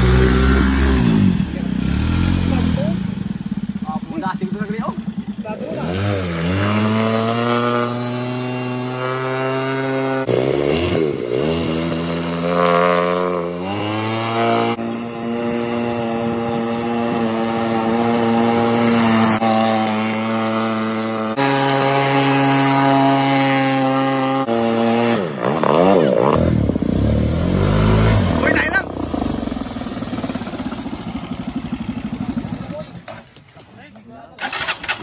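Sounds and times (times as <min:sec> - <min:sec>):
motorcycle engine buzzing drone: 0:00.0 - 0:33.2.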